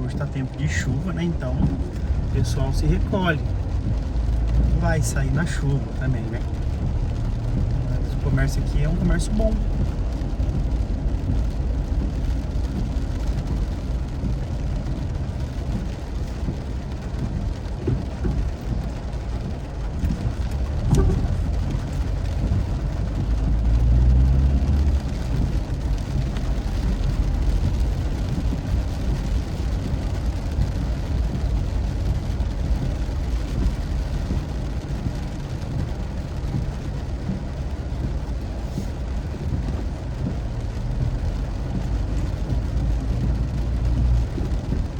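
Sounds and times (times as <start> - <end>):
car driving rumble: 0.0 - 44.9
rain on wet road: 0.0 - 44.9.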